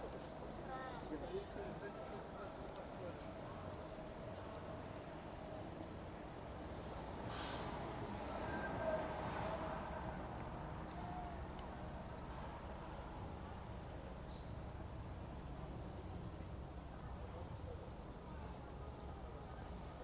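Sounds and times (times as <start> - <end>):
low rumble of traffic: 0.0 - 20.0.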